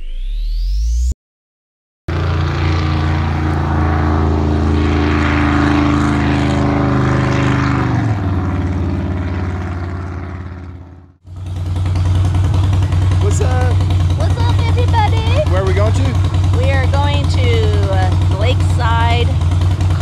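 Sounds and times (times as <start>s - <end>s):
speedboat engine at high speed: 2.1s - 20.0s.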